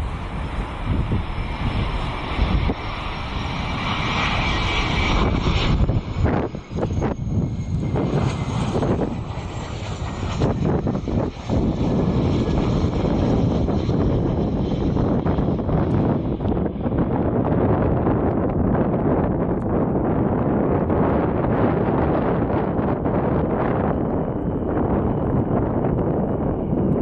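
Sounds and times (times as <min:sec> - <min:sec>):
jet engines whining: 0:00.0 - 0:27.0
wind buffeting microphone: 0:00.0 - 0:27.0.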